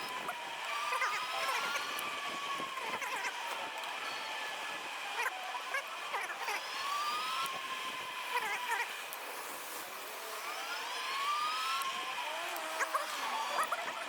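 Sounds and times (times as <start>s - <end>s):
e-bike squeaking: 0.0s - 14.0s.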